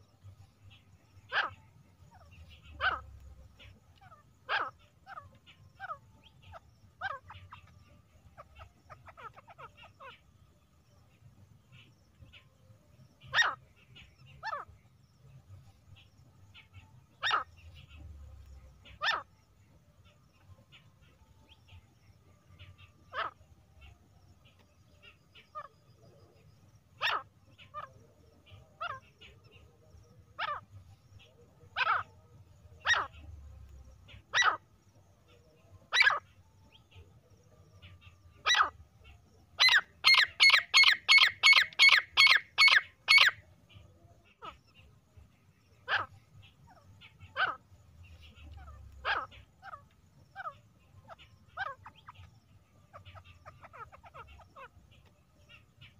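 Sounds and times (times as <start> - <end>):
francolin calling: 0.0 - 55.9.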